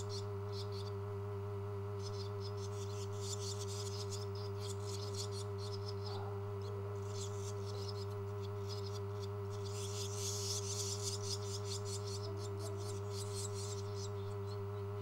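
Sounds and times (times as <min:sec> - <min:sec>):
nestlings chirping: 0:00.0 - 0:01.2, 0:01.8 - 0:15.0
low electrical hum: 0:00.0 - 0:15.0.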